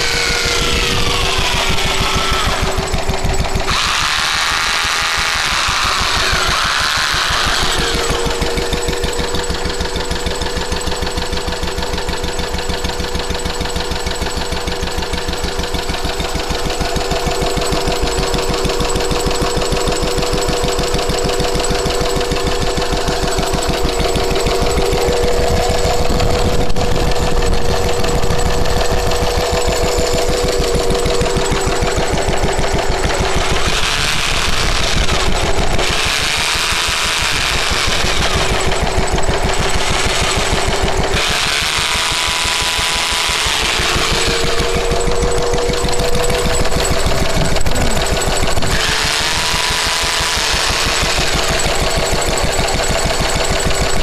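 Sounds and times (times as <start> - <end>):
stationary engine running: 0.0 - 54.0
steady whine: 0.0 - 54.0.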